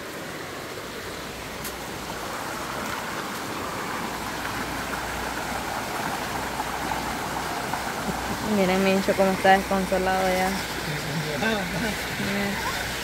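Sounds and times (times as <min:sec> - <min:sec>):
river rapids rushing over rocks: 0:00.0 - 0:13.0.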